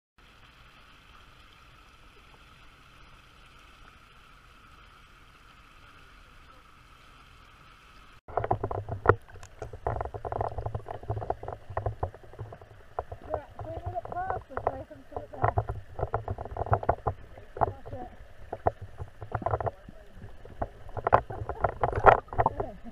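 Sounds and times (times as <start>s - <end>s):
muffled underwater sloshing: 0.2s - 22.9s.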